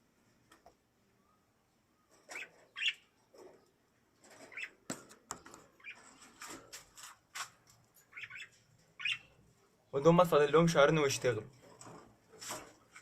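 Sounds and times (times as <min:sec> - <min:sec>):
small cage birds chirping: 0:00.3 - 0:13.0.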